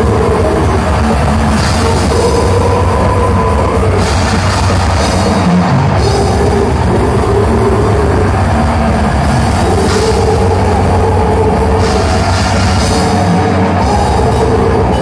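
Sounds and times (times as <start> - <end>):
death metal band playing live: 0.0 - 15.0.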